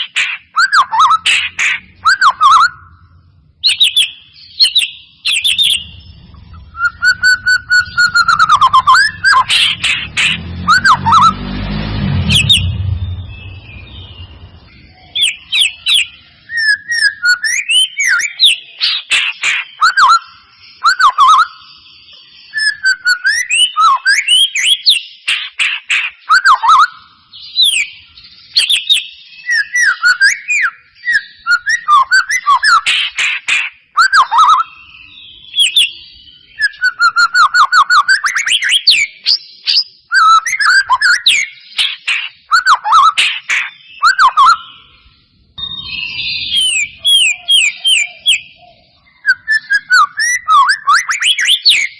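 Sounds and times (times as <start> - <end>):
bird singing whistled notes: 0.0 - 51.9.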